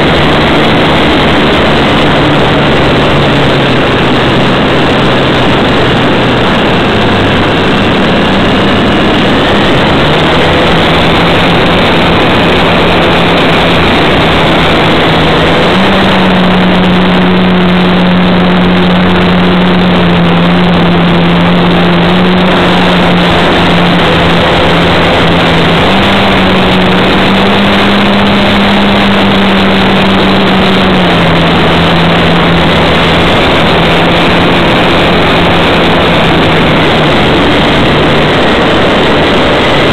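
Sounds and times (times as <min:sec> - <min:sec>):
model plane motor drone: 0:00.0 - 0:39.9
rushing wind noise: 0:00.0 - 0:39.9.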